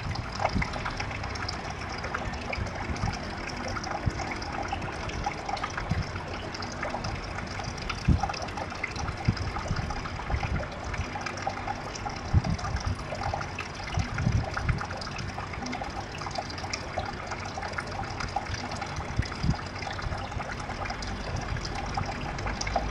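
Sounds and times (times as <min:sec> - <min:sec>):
water trickling and splashing: 0:00.0 - 0:22.9.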